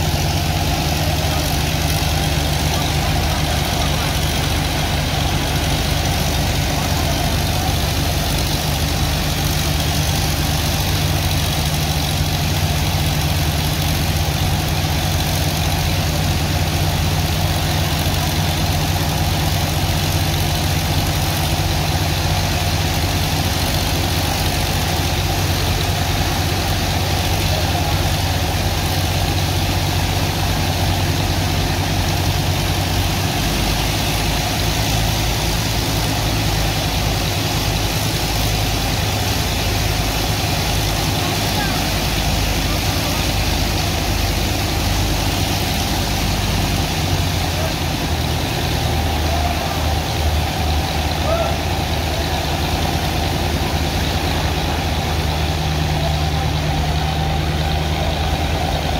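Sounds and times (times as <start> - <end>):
engine humming: 0.0 - 58.9
high-pressure water jet hissing: 0.0 - 58.9.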